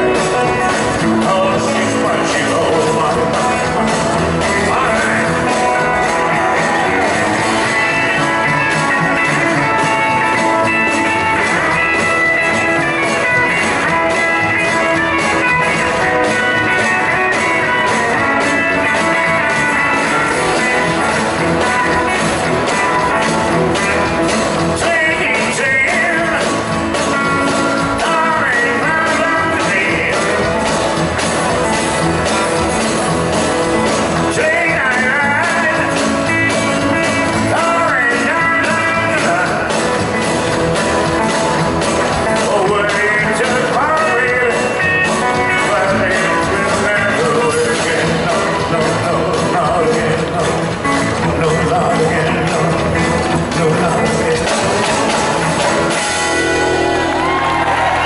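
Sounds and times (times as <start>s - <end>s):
electric guitar: 0.0s - 58.0s
person singing: 0.0s - 58.0s
steady drum beat: 0.0s - 58.0s.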